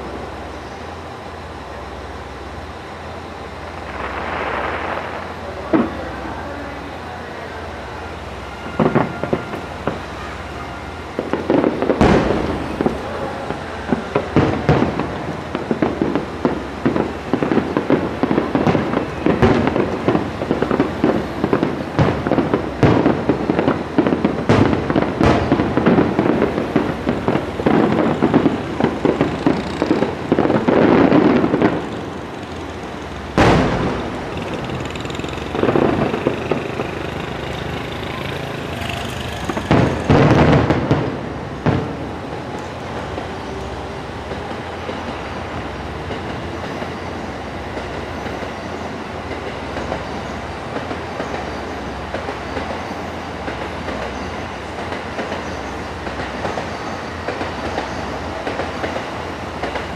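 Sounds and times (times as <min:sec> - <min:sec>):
fireworks bursting with bangs: 0:00.0 - 0:59.9.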